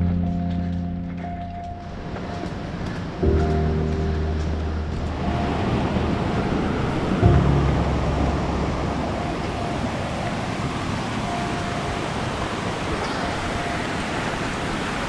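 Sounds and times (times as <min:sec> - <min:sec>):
fast mountain stream rushing: 0:02.1 - 0:15.0.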